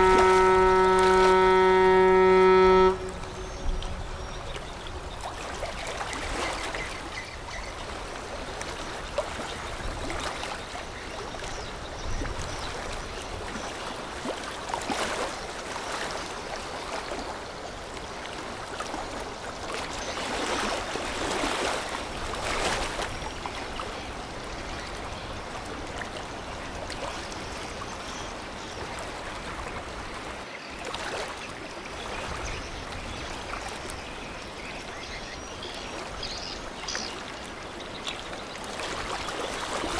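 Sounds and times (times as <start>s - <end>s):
river water washing and splashing: 0.0s - 39.9s.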